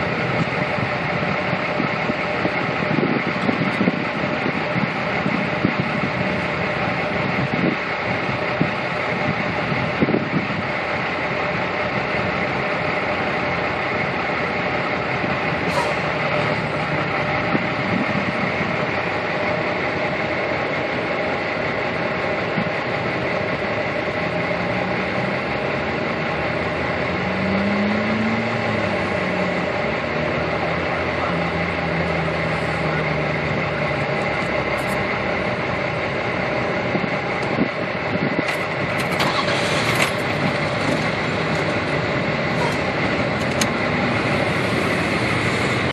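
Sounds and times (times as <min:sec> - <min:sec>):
low engine hum: 0:00.0 - 0:45.9
road traffic: 0:00.0 - 0:45.9.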